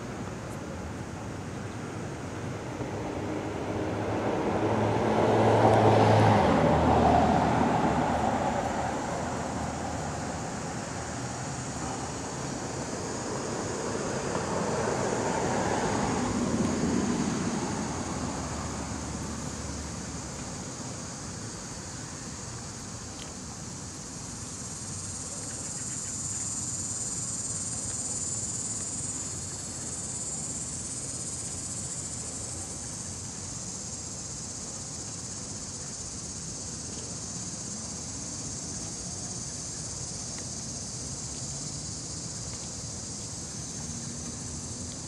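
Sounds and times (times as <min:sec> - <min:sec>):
insects buzzing: 0:03.0 - 0:45.0.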